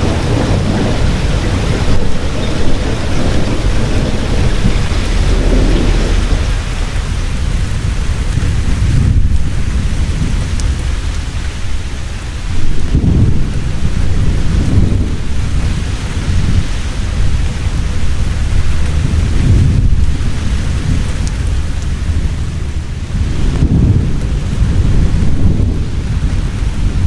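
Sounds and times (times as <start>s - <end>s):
deep rolling thunder: 0.0s - 27.0s
heavy rain falling: 0.0s - 27.0s.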